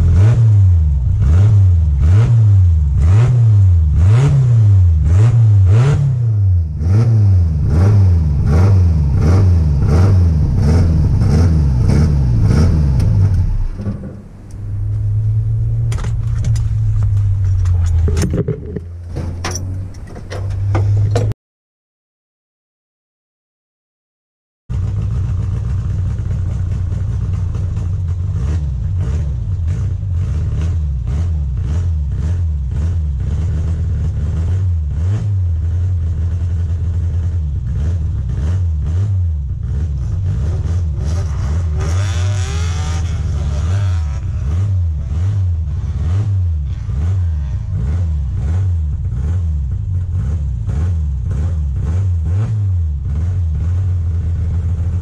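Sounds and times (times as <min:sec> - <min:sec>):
car engine revving: 0:00.0 - 0:21.3, 0:24.7 - 0:55.0.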